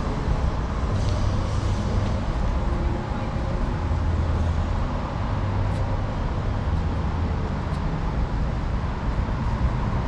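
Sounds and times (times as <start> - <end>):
road noise: 0.0 - 10.0
vehicle engines humming: 0.0 - 10.0.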